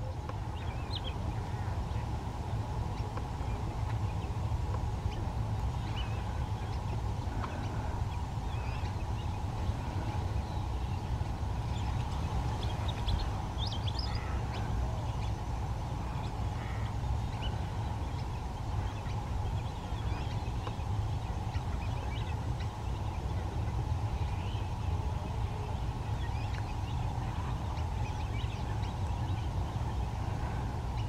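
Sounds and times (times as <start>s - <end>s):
distant bird chirps: 0.0s - 31.0s
steady low rumble: 0.0s - 31.0s.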